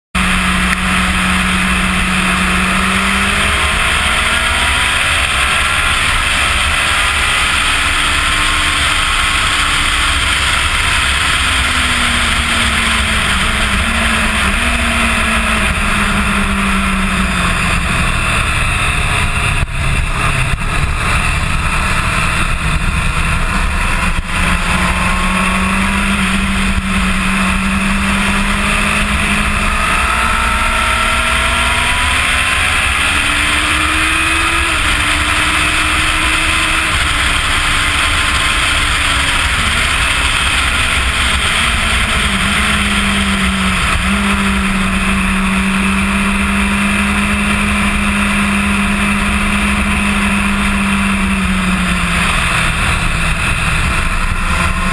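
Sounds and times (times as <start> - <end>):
motorcycle engine revving at speed: 0.0 - 54.9
wind rushing over microphone: 0.2 - 54.9.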